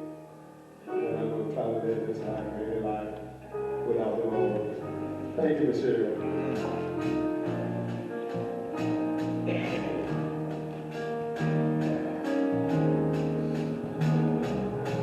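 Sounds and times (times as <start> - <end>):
gospel band playing: 0.8 - 15.0.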